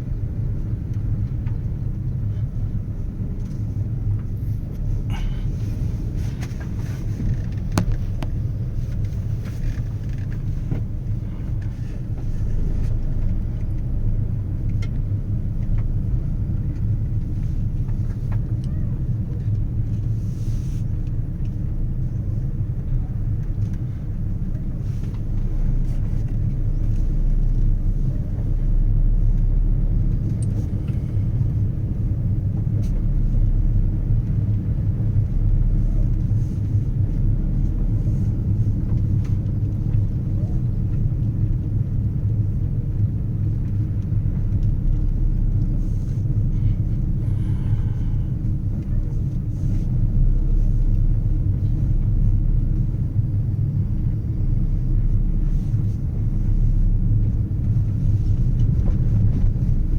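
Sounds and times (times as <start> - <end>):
vehicle rumble: 0.0 - 59.9.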